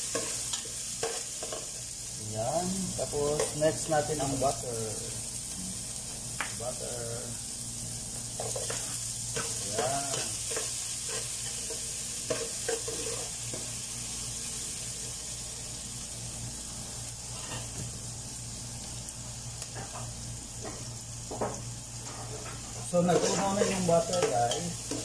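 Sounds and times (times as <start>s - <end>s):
butter sizzling in a pot: 0.0s - 25.0s.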